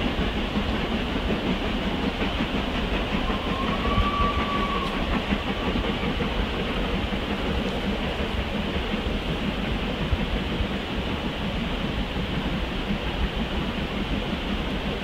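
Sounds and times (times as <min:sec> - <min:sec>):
distant steam locomotive exhaust: 0:00.0 - 0:15.0.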